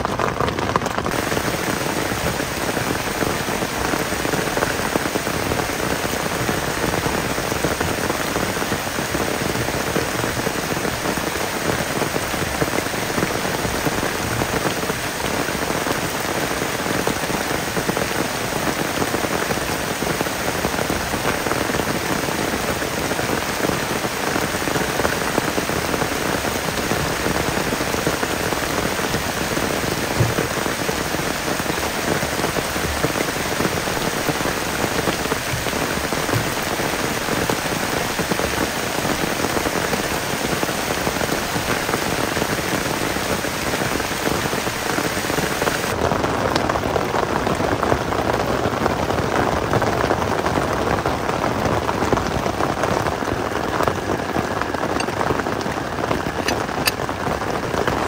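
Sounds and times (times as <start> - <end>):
heavy rain on foliage and tent: 0.0 - 58.0.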